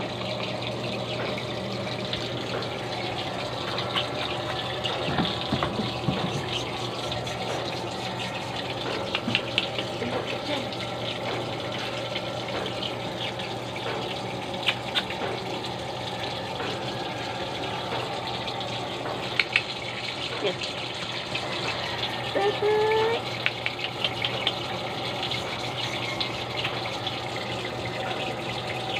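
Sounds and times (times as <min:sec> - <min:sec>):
water running: 0:00.0 - 0:28.9.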